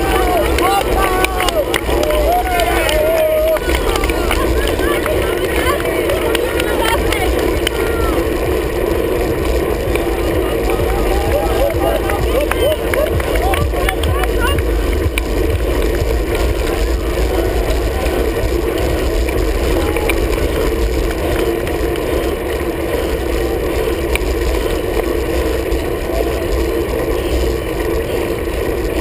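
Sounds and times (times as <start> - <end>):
bicycle tyre noise: 0.0 - 29.0
wind rushing: 0.0 - 29.0.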